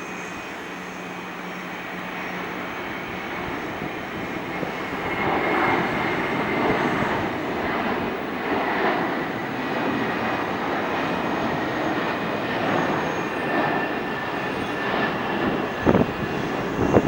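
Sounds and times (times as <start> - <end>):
faint high whine: 0.0 - 17.0
jet engines rushing: 0.0 - 17.0.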